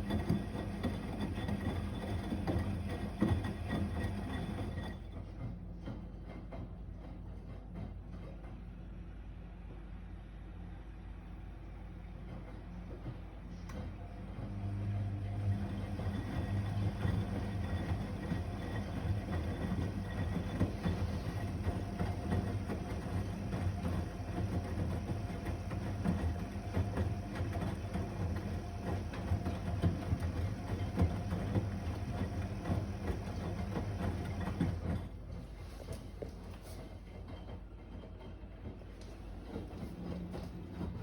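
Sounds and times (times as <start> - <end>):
washing machine motor hum: 0.0 - 6.2, 10.6 - 41.0.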